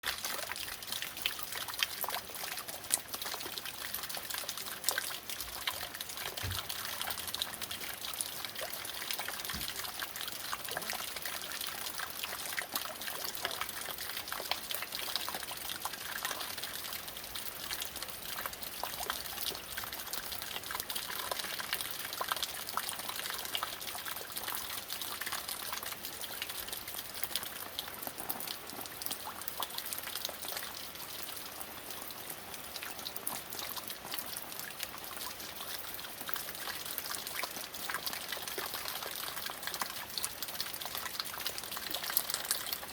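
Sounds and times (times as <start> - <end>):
rain falling: 0.0 - 42.9
raindrops pattering: 0.0 - 42.9
water dripping from eaves: 0.0 - 42.9.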